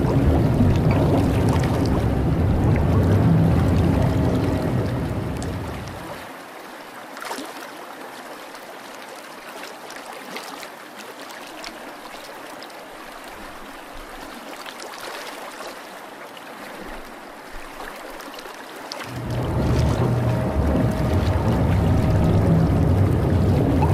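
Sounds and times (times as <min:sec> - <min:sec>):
water trickling and gurgling: 0:00.0 - 0:23.9.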